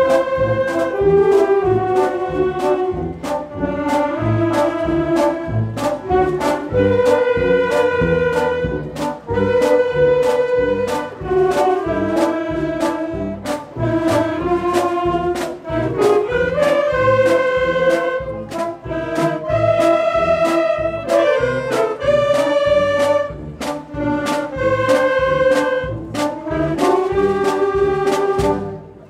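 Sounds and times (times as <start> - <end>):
wind band playing march: 0.0 - 29.0.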